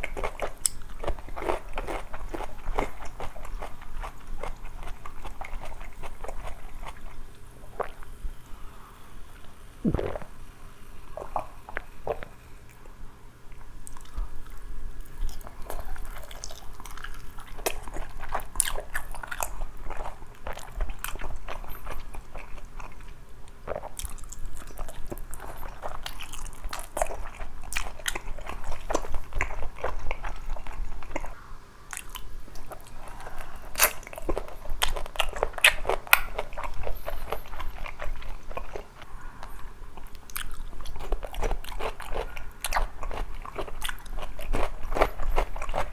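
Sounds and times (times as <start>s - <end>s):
crunching and chewing fried chicken: 0.0s - 8.6s, 11.1s - 45.9s.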